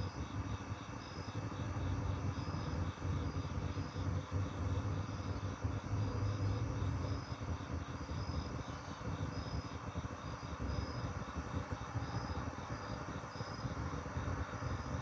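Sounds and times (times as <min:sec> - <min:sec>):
crickets chirping: 0:00.0 - 0:15.0
low steady rumble: 0:00.0 - 0:15.0.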